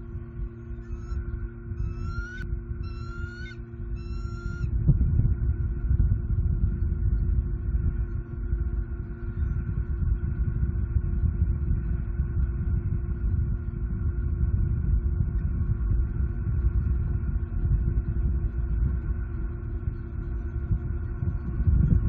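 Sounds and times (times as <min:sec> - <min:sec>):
faint constant hum: 0:00.0 - 0:22.0
low rumble: 0:00.0 - 0:22.0.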